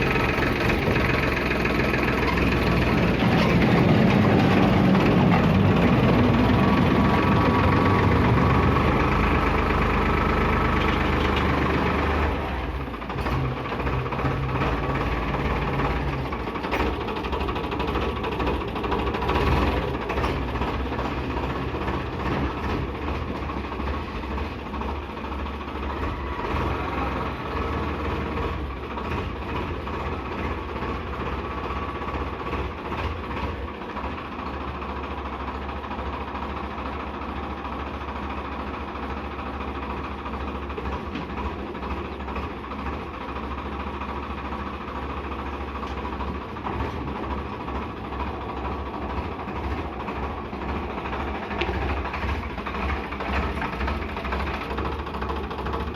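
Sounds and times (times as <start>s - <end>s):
heavy machine engine rumbling: 0.0s - 55.9s.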